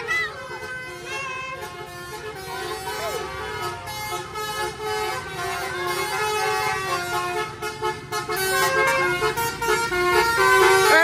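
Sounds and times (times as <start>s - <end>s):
crowd noise: 0.0s - 11.0s
musical air horns tooting: 0.0s - 11.0s.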